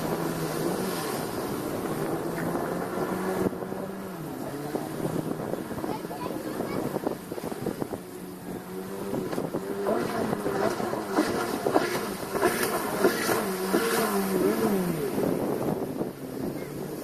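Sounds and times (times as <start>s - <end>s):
jet ski engine revving: 0.0s - 17.0s.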